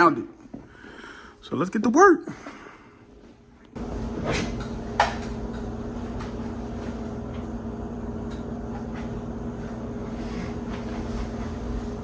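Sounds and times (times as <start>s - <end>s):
steady low hum: 2.3s - 12.0s.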